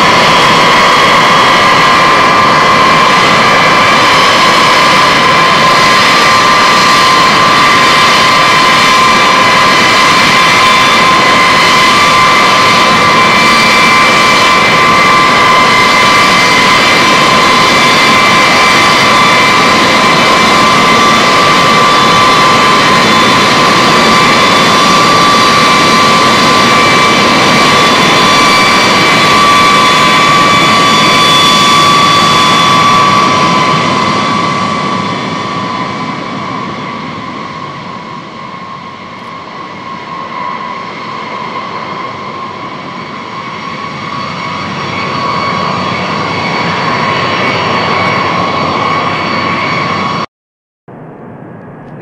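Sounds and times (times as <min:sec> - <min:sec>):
jet engines whining: 0:00.0 - 0:50.3, 0:50.9 - 0:52.0.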